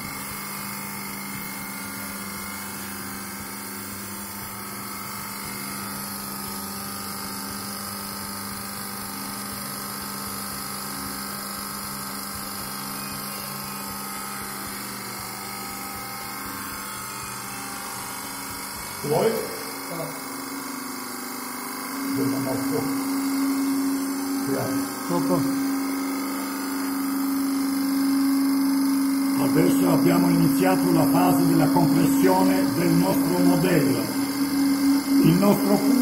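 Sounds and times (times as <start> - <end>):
electric hydraulic pump whining: 0.0 - 36.0.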